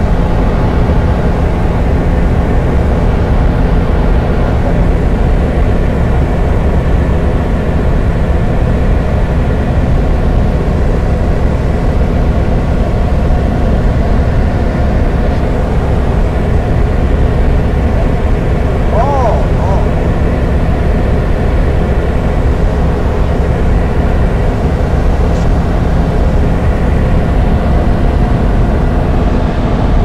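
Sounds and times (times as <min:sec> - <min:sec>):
light aircraft engine droning: 0:00.0 - 0:30.0.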